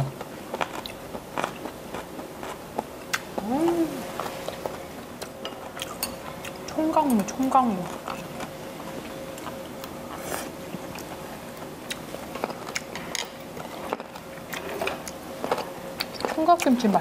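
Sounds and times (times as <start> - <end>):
person chewing crunchy food: 0.1 - 6.7, 7.8 - 16.8.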